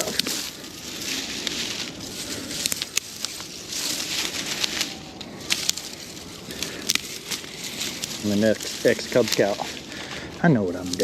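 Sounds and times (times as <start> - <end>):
twigs rustling: 0.0 - 11.0
twigs snapping: 0.0 - 11.0.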